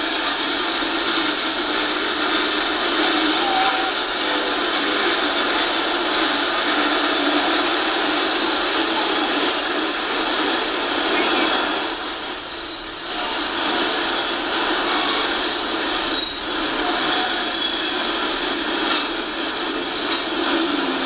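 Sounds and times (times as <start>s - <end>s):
steel wheels rolling on rail: 0.0s - 21.0s.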